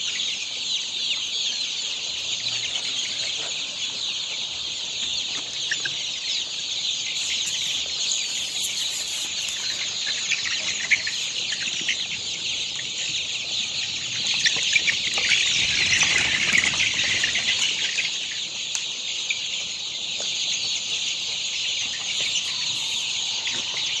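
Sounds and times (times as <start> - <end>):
chickens cheeping and clucking: 0.0 - 24.0.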